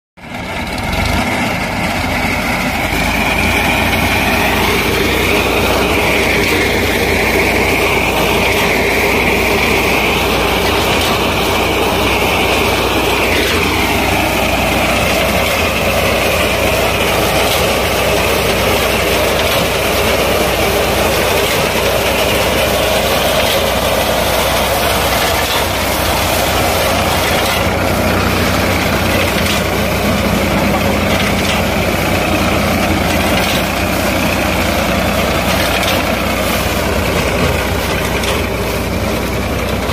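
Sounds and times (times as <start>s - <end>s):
tractor diesel engine running: 0.2s - 39.9s
high whine: 0.3s - 39.9s.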